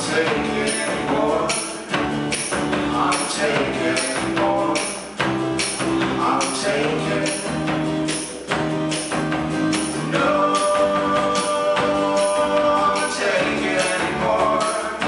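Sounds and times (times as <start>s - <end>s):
person singing: 0.0s - 8.6s, 9.7s - 15.0s
live band playing: 0.0s - 15.0s
tambourine beat: 0.0s - 15.0s.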